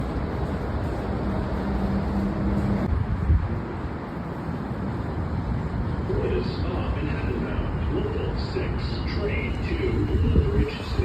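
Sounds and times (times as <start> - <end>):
subway train rumbling on track: 0.0 - 11.0.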